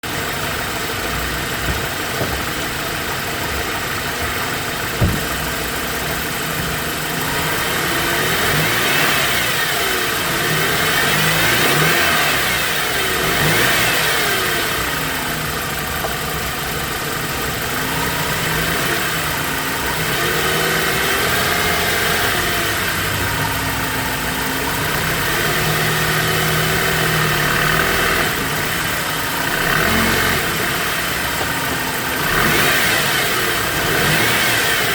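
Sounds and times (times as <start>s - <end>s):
car engine idling and revving: 0.0s - 34.9s
engine whine: 0.0s - 34.9s.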